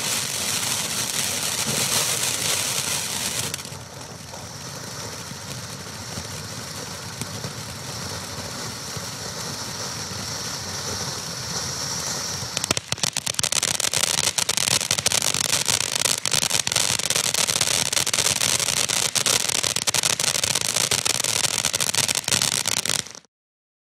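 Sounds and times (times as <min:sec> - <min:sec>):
firework fountain hissing and crackling: 0:00.0 - 0:23.3.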